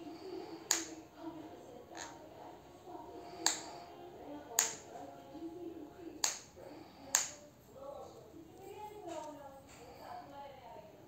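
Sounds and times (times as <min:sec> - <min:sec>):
faint background murmur: 0:00.0 - 0:11.0.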